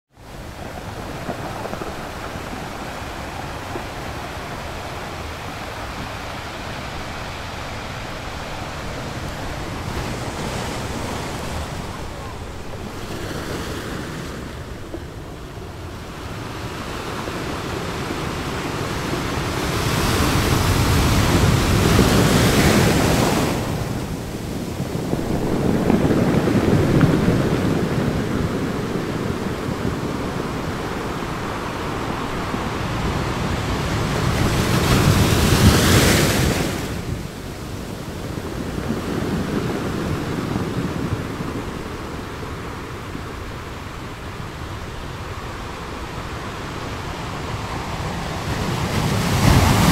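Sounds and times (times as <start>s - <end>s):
waves breaking over boulders: 0.2s - 49.9s.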